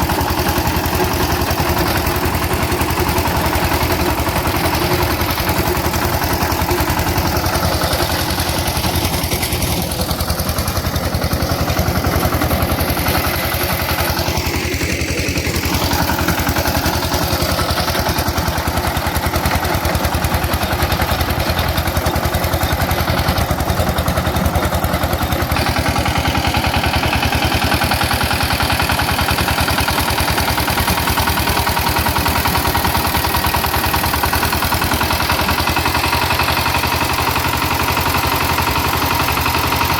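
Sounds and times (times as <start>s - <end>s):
power tiller engine running: 0.0s - 39.9s.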